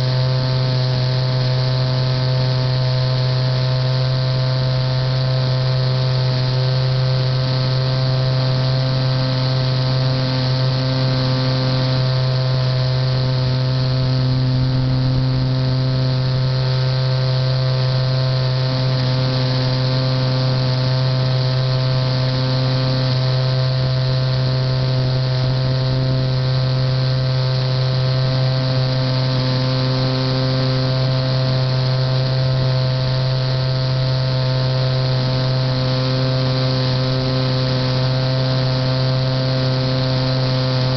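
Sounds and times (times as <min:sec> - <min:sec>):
model airplane motor drone: 0:00.0 - 0:40.9.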